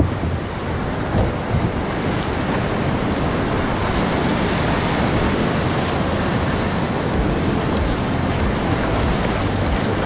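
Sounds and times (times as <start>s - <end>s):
whitewater rushing: 0.0s - 10.0s
wind buffeting microphone: 0.0s - 10.0s.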